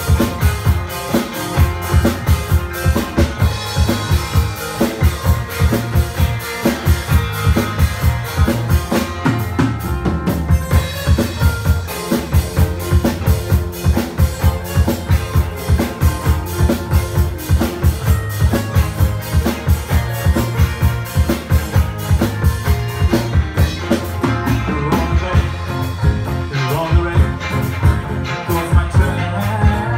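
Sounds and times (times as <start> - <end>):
bass guitar: 0.0 - 29.9
drum kit beat: 0.0 - 29.9
strummed guitar: 0.0 - 29.9.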